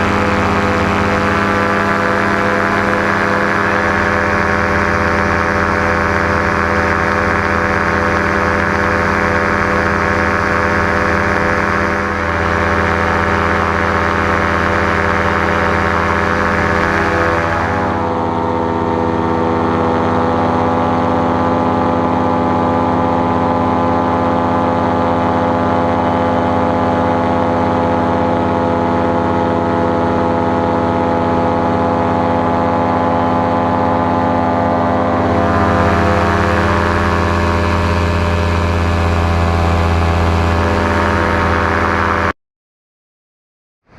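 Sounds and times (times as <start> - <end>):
paramotor engine and propeller: 0.0 - 42.4.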